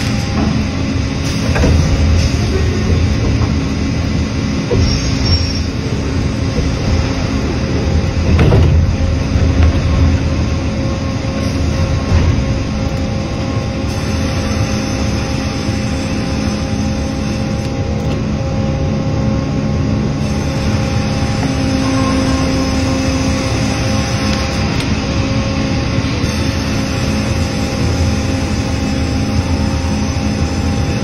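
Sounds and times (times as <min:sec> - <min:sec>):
low machine rumble: 0:00.0 - 0:31.0.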